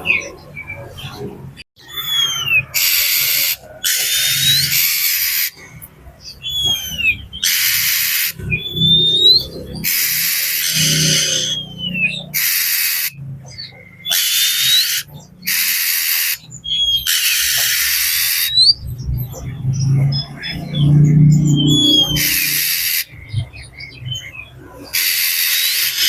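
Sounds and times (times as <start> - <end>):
bird harsh rasping calls: 0.0 - 26.0.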